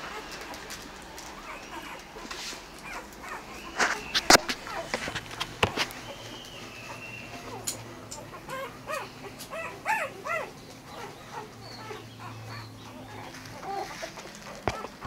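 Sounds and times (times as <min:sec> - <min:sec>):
puppies squeaking and whimpering: 0:00.0 - 0:15.0.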